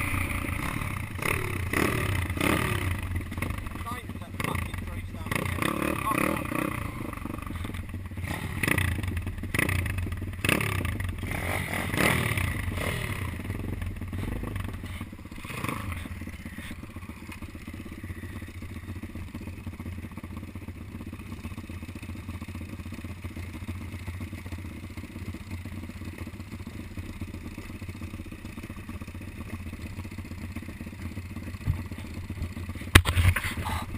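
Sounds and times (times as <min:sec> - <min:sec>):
motorbike engine revving: 0:00.0 - 0:29.6, 0:30.5 - 0:33.9
engine knocks and clatter: 0:00.0 - 0:33.9.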